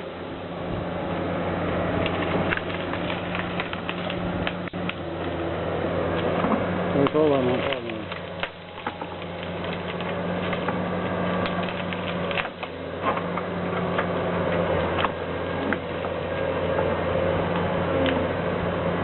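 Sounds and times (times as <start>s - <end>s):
machine engine humming: 0.0s - 19.0s.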